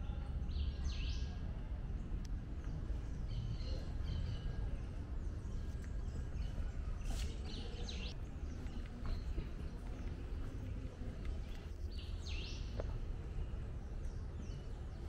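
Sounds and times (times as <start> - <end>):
low background rumble: 0.0 - 15.0
small birds chirping: 0.1 - 15.0.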